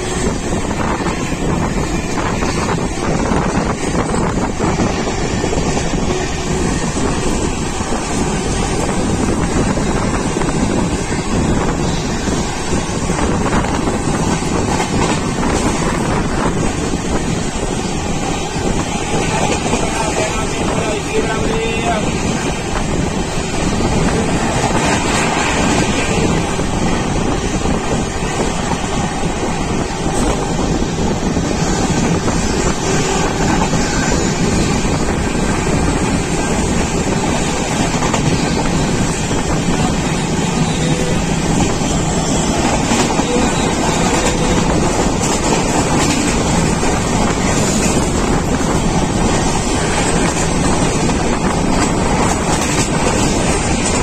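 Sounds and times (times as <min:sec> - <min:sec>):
moving train running noise: 0:00.0 - 0:54.0
wind rushing over microphone: 0:00.0 - 0:54.0.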